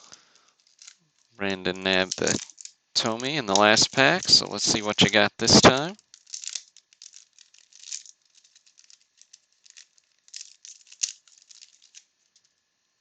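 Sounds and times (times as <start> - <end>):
wax paper wrapper crinkling: 0.0 - 12.7.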